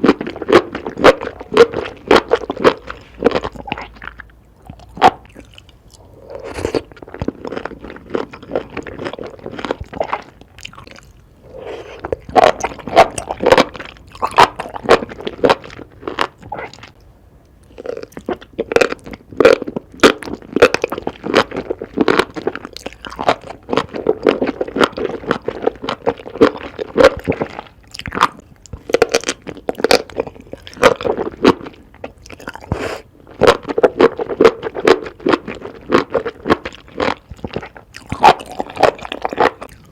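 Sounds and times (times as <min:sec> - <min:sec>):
crunchy chewing: 0:00.0 - 0:17.0, 0:17.6 - 0:39.9
wet mouth sounds: 0:00.0 - 0:17.0, 0:17.6 - 0:39.9.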